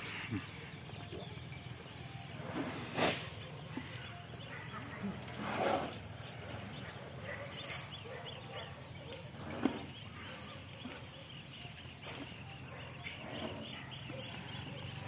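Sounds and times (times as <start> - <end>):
small birds chirping: 0.0 - 2.4, 3.3 - 5.4, 6.0 - 15.0.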